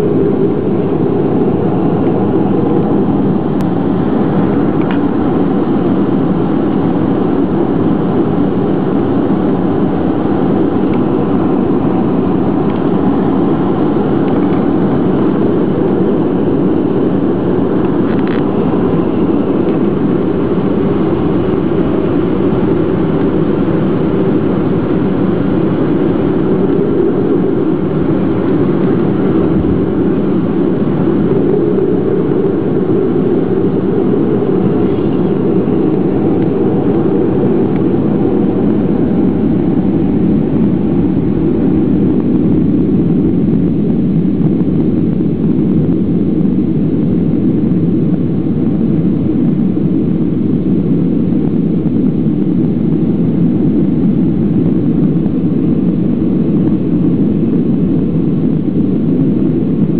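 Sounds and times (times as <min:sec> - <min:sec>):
airliner cabin jet engine noise: 0:00.0 - 0:59.9.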